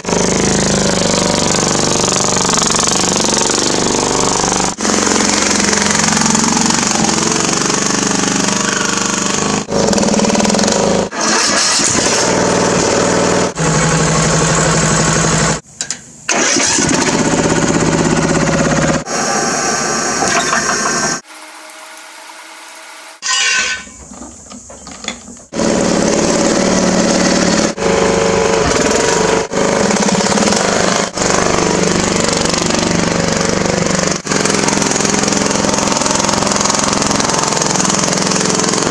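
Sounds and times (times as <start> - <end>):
lawn mower engine running: 0.0 - 15.7, 16.3 - 38.9.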